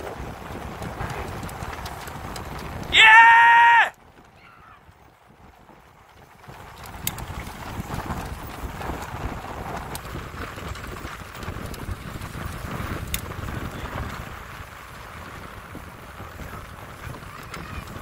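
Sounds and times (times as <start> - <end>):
rhythmic propeller clatter: 0.0 - 3.0, 4.0 - 18.0
wind rumbling on microphone: 0.0 - 18.0.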